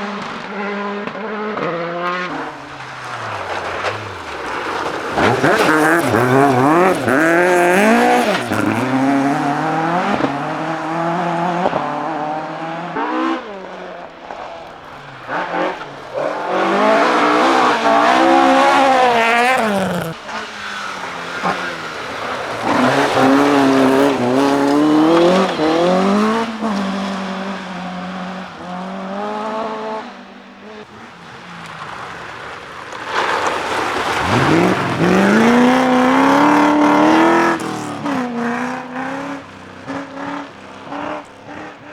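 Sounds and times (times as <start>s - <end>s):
rally cars revving past: 0.0s - 41.9s.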